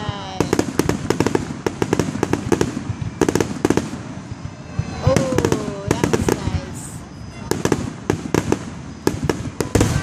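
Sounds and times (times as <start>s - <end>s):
continuous rumble: 0.0s - 10.0s
fireworks bangs: 0.0s - 10.0s.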